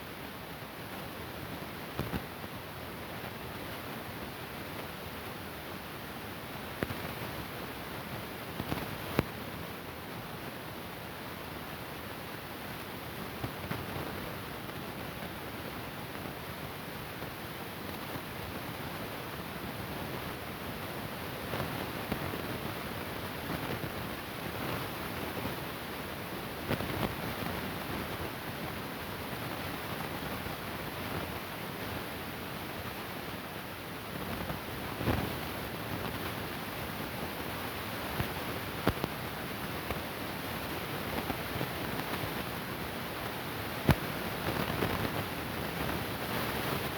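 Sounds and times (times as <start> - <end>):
recording hiss: 0.0 - 46.9.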